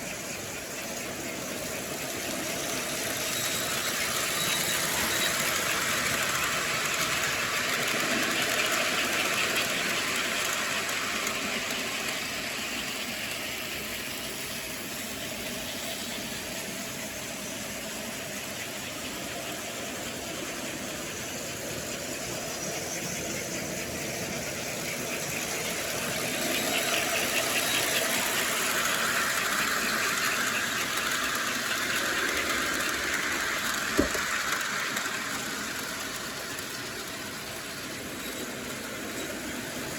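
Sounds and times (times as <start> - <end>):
model train motor whir: 0.0 - 39.9.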